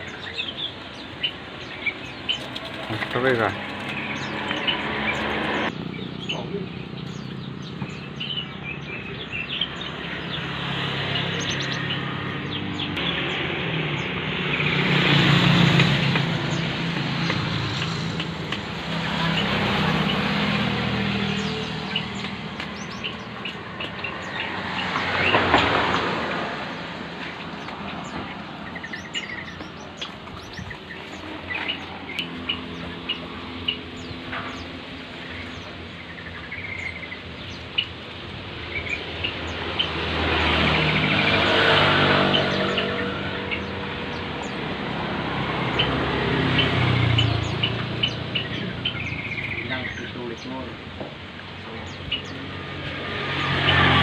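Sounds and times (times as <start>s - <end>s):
birds chirping: 0.0s - 54.0s
road traffic: 0.0s - 54.0s.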